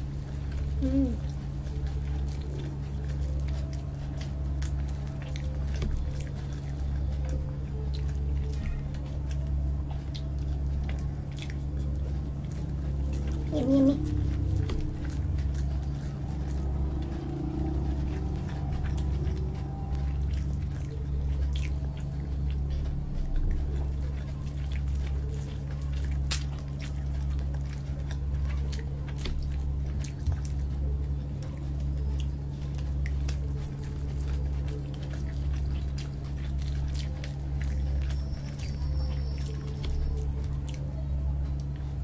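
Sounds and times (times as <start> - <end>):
chewing food: 0.0 - 42.0
low hum: 0.0 - 42.0.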